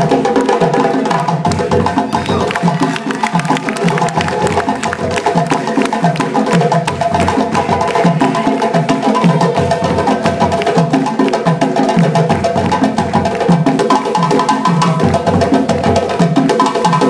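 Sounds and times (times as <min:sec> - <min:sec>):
hand drums struck quickly: 0:00.0 - 0:17.0.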